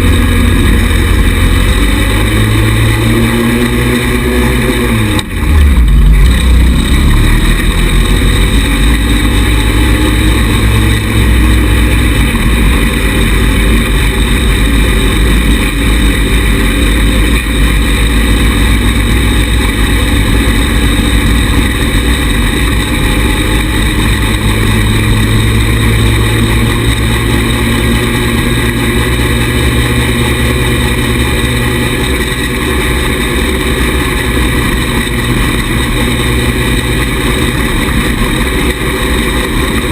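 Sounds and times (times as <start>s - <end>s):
buggy engine rumbling: 0.0s - 39.9s.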